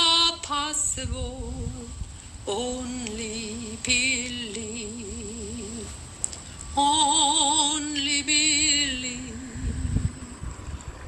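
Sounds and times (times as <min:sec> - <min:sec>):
woman singing a slow hymn: 0:00.0 - 0:10.6.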